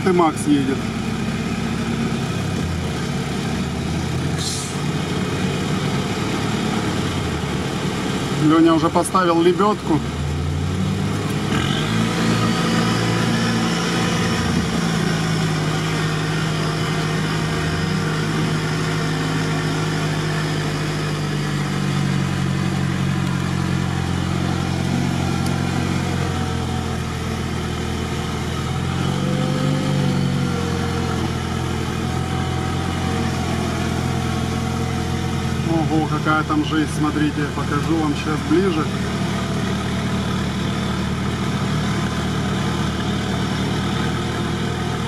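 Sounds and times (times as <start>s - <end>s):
engine running at low revs: 0.0s - 45.0s.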